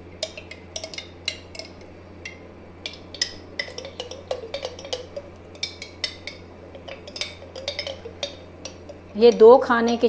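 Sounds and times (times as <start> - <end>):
steady low hum: 0.0 - 10.0
spoon clinking in a glass jar: 0.2 - 9.4.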